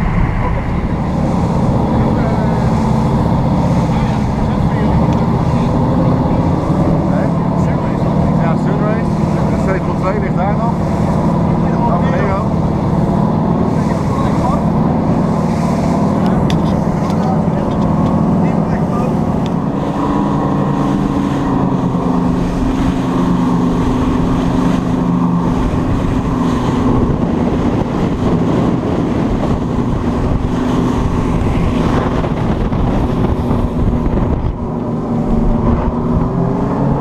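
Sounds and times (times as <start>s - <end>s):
boat engine hum: 0.0s - 37.0s
rushing water: 0.0s - 37.0s
wind on microphone: 0.0s - 37.0s.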